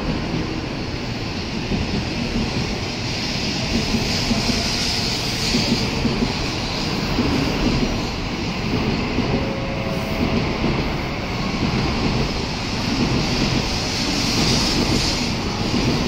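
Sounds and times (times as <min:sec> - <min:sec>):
rushing air: 0:00.0 - 0:16.0
train wheels rumbling: 0:00.0 - 0:16.0.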